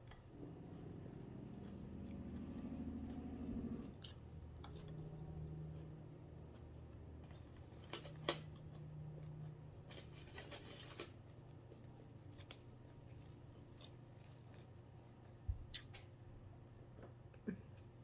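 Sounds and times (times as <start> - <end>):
food handled and eaten: 0.0 - 18.0.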